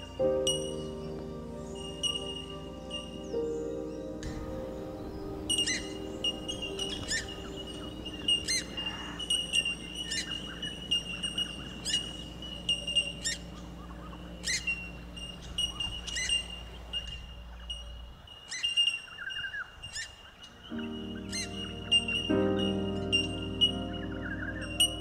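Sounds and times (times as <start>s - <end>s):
wild birds calling: 0.0s - 25.0s.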